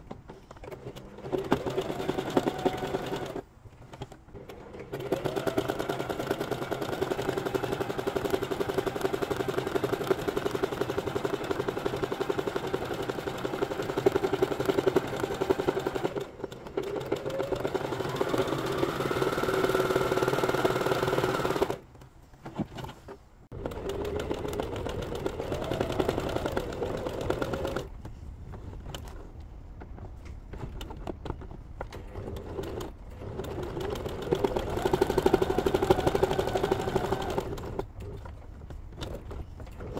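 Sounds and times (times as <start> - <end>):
sewing machine stitching: 0.3 - 21.8, 23.5 - 27.9, 30.6 - 38.3.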